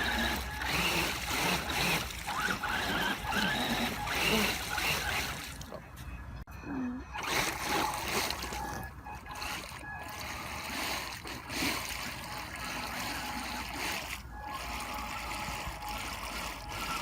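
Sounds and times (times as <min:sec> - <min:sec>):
water splashing and trickling: 0:00.0 - 0:06.4, 0:07.2 - 0:17.0.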